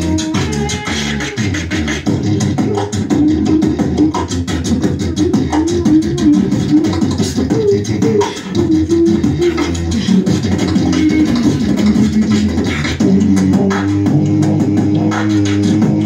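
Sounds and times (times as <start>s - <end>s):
beatboxing into microphones: 0.0s - 16.0s
hummed bass lines: 0.0s - 16.0s.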